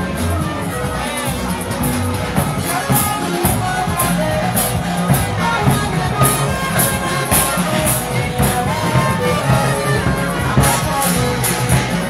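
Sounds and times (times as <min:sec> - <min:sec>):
loud music with steady beat: 0:00.0 - 0:12.0.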